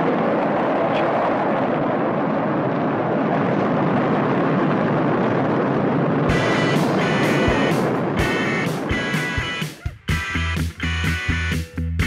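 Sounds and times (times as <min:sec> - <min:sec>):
rocket engines roaring: 0:00.0 - 0:11.6.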